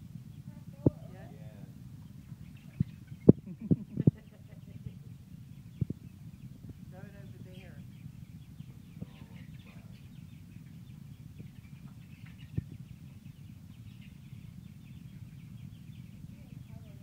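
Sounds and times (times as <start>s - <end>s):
chickens chirping and clucking: 0.0s - 17.0s
steady low rumble: 0.0s - 17.0s.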